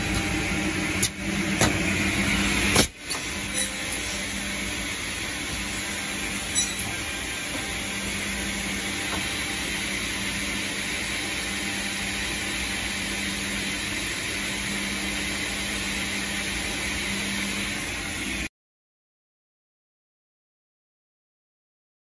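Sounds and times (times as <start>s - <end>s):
machine motors humming: 0.0s - 18.5s.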